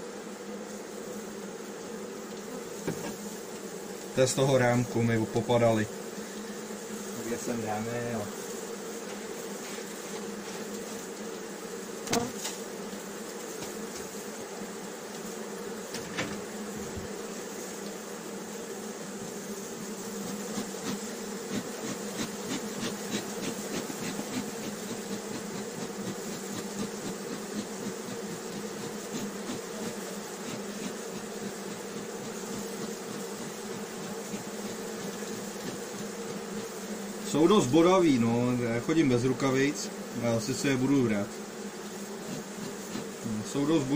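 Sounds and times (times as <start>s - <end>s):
bees buzzing: 0.0s - 43.9s.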